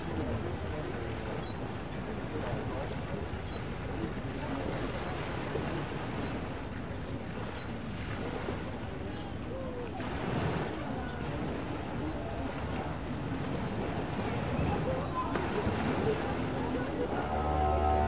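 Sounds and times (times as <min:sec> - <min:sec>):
distant voices murmuring: 0:00.0 - 0:18.0.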